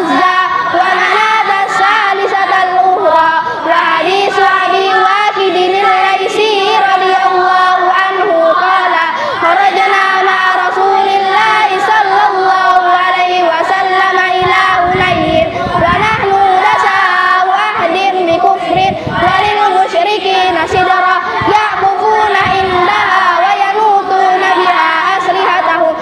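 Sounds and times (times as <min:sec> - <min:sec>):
children chanting in unison: 0:00.0 - 0:26.0.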